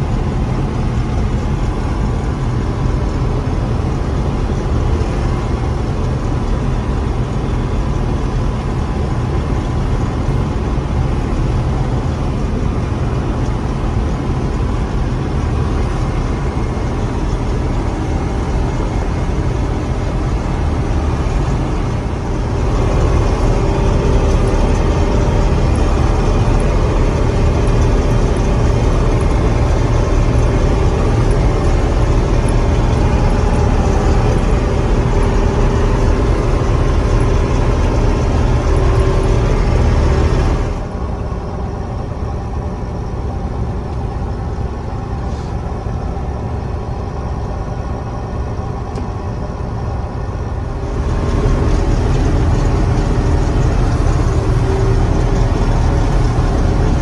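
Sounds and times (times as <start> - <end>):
combine harvester engine droning: 0.0 - 57.0
steady whine: 0.0 - 57.0.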